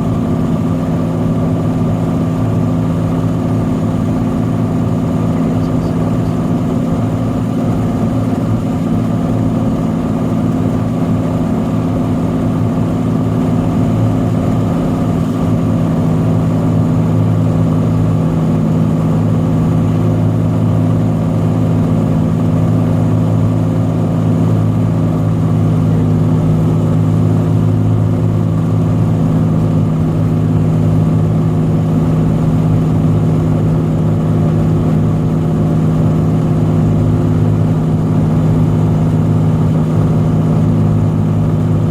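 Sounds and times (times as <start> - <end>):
propeller plane engine droning: 0.0 - 41.9.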